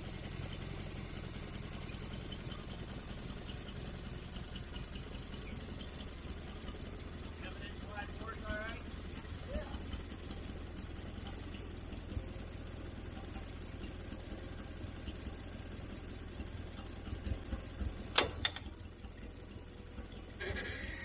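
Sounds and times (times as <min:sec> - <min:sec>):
sawmill engine humming: 0:00.0 - 0:21.0.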